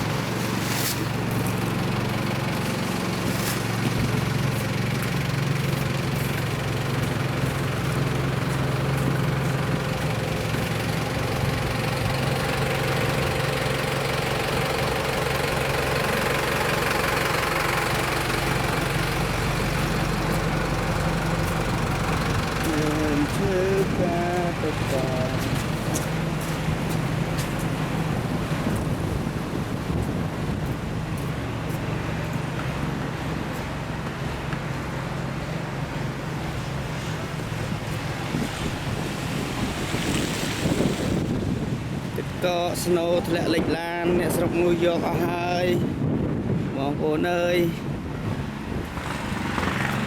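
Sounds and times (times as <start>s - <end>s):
engine idling: 0.0s - 39.7s, 47.5s - 50.0s.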